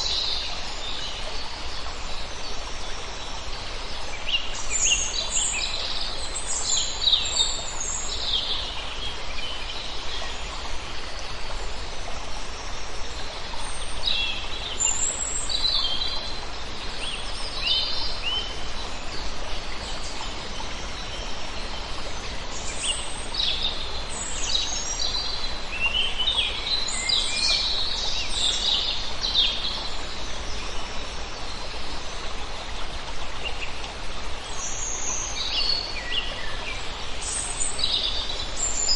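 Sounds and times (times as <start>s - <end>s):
steady background hiss: 0.0s - 38.9s.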